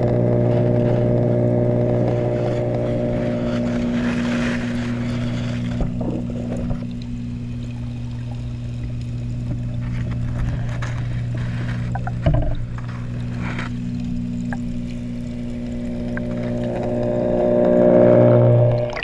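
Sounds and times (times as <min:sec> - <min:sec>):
low underwater hum: 0:00.0 - 0:19.0.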